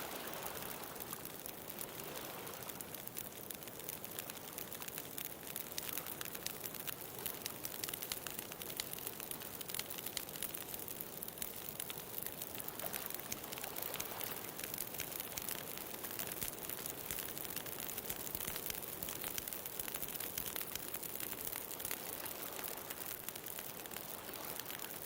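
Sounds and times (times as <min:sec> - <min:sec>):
bonfire crackling and popping: 0:00.0 - 0:25.0
steady fire hiss: 0:00.0 - 0:25.0.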